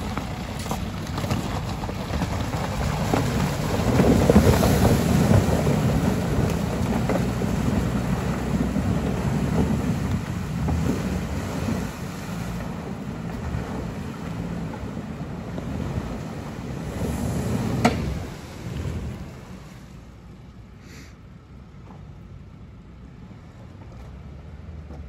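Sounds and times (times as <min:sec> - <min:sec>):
car engine running: 0:00.0 - 0:20.8.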